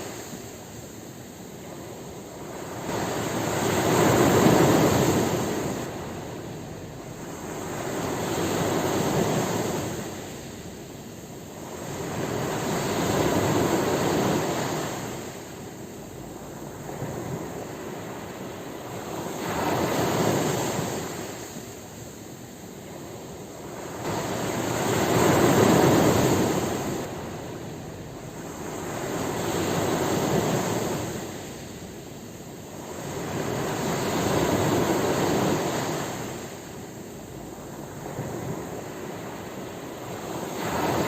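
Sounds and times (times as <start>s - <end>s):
ocean waves breaking on shore: 0.0s - 41.0s.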